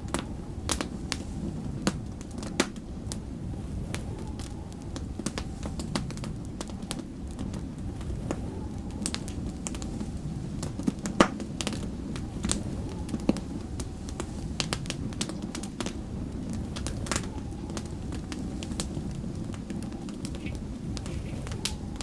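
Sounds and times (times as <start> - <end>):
low rumble of wind: 0.0 - 22.0
wood fire crackling and popping: 0.0 - 22.0.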